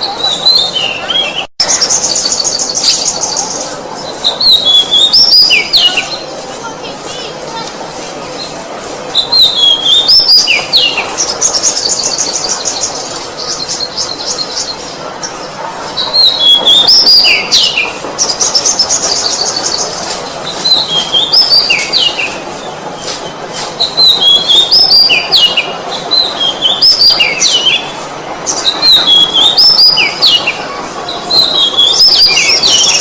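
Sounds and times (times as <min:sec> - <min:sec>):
bird singing whistled notes: 0:00.0 - 0:06.2, 0:09.1 - 0:14.9, 0:16.0 - 0:22.4, 0:23.8 - 0:27.9, 0:28.5 - 0:30.6, 0:31.3 - 0:33.0.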